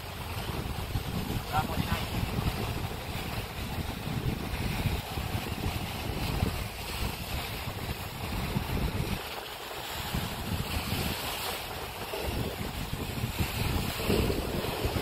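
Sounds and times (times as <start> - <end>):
sea waves breaking on rocks: 0.0 - 15.0
wind buffeting microphone: 0.0 - 15.0.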